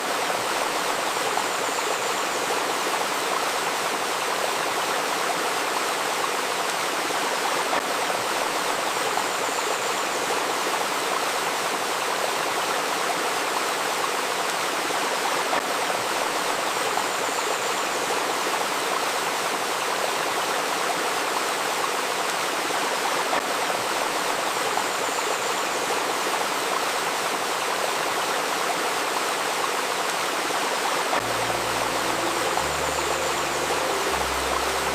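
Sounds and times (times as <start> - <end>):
river babbling over stones: 0.0 - 34.9.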